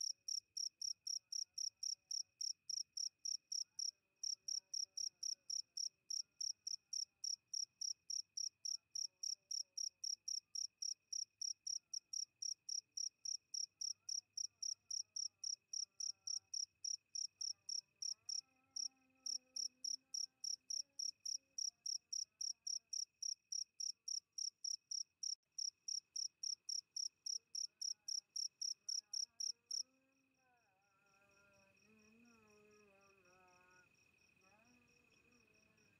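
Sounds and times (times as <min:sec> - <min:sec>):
cricket chirping: 0:00.0 - 0:35.9.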